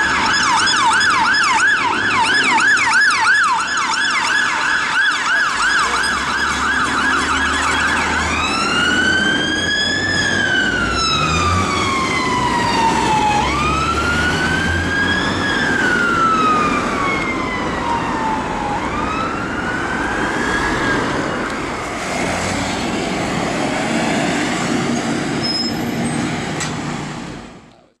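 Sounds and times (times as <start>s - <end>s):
fire engine siren: 0.0s - 27.4s.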